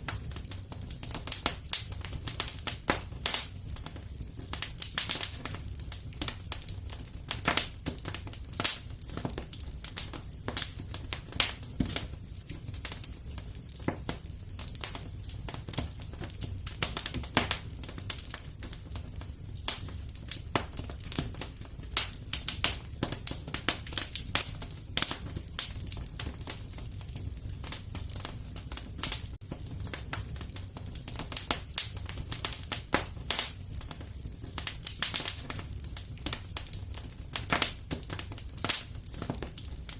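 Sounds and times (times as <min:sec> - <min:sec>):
fire popping and snapping: 0:00.0 - 0:39.9
low rumble of burning: 0:00.0 - 0:39.9
wood fire crackling: 0:00.0 - 0:39.9.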